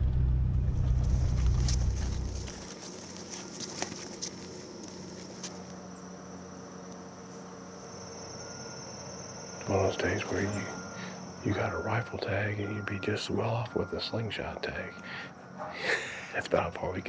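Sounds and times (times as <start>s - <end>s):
quiet outdoor background: 0.0s - 17.0s
insects trilling: 1.1s - 17.0s.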